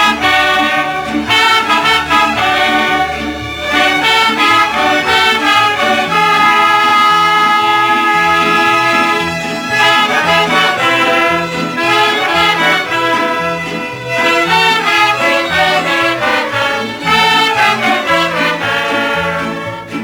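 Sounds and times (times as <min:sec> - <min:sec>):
mariachi band playing: 0:00.0 - 0:20.0.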